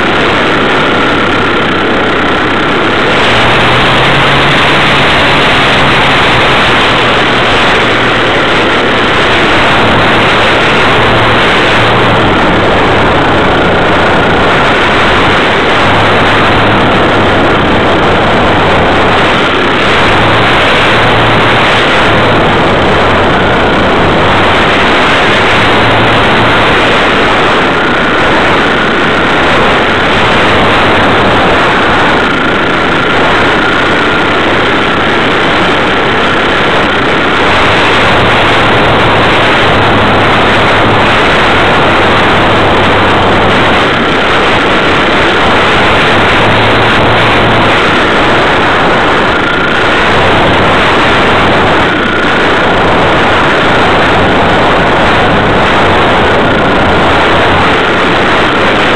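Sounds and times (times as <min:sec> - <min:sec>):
model aircraft motor drone: 0:00.0 - 0:58.9
rushing air: 0:00.0 - 0:58.9.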